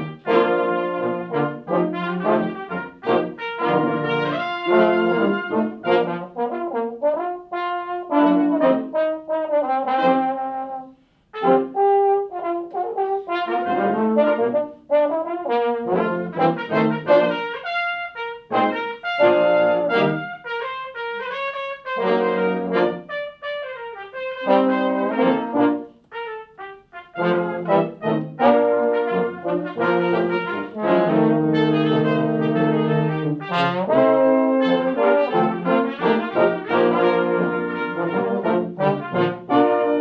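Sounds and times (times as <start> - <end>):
brass ensemble playing: 0.0 - 40.0.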